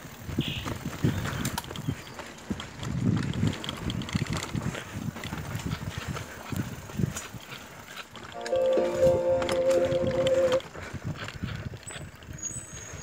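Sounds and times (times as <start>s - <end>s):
bicycles rattling over rough path: 0.0s - 13.0s.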